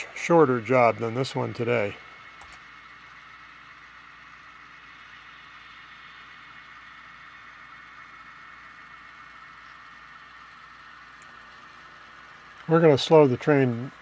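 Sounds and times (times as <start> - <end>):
model train diesel engine sound: 0.0 - 14.0.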